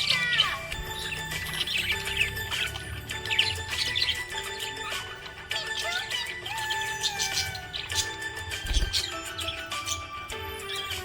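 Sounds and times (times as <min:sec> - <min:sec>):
background music with held notes: 0:00.0 - 0:11.0
budgerigar chirping: 0:00.0 - 0:11.0.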